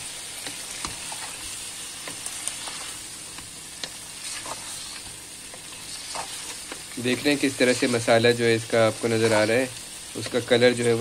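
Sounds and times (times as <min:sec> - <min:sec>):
food sizzling in hot oil: 0:00.0 - 0:11.0
wooden spoon stirring: 0:00.4 - 0:10.4.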